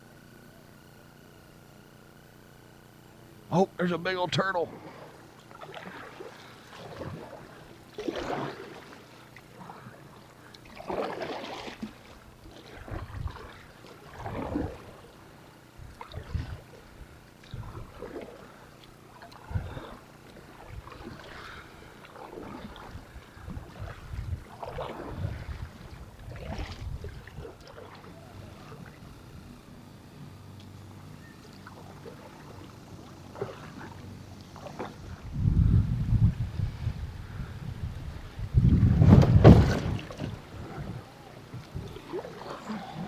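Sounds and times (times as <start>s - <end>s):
kayak paddle splashing: 3.6s - 29.9s, 30.6s - 35.4s, 37.2s - 43.0s.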